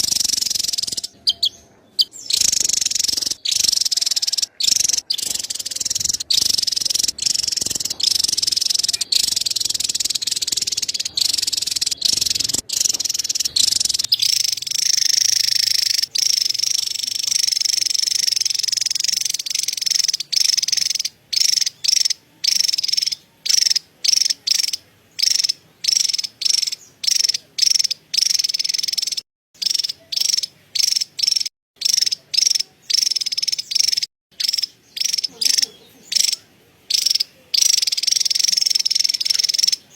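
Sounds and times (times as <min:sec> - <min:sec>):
bird giving dry chattering call: 0:00.0 - 0:39.9.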